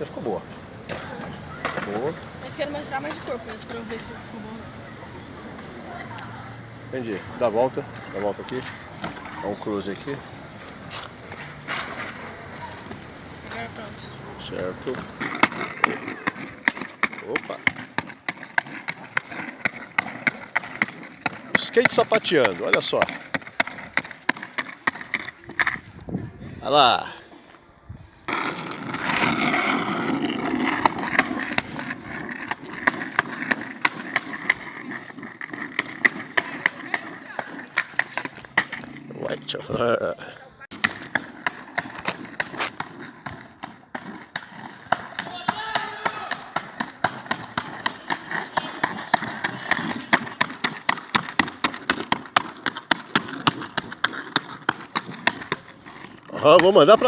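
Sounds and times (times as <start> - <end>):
skateboard rolling over pavement: 0.0 - 57.0.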